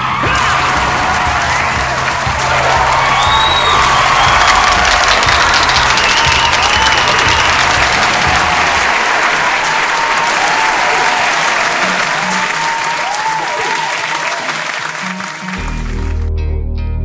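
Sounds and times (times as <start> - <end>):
audience applauding and cheering: 0.0 - 16.3
music: 0.0 - 17.0.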